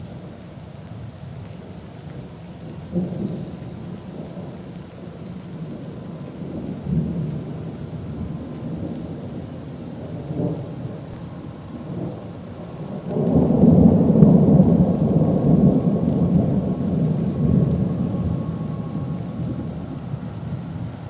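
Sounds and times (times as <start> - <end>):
thunder rumbling: 2.9 - 21.0.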